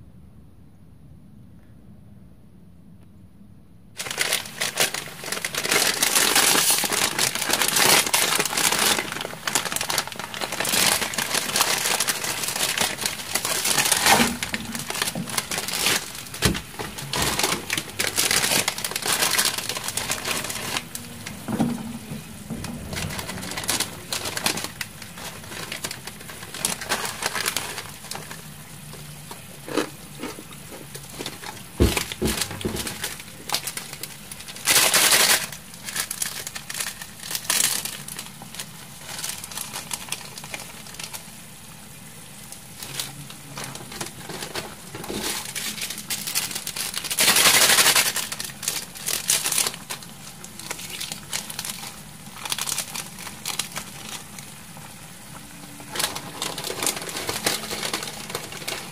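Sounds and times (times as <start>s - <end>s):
packaging crinkling: 4.0s - 58.9s.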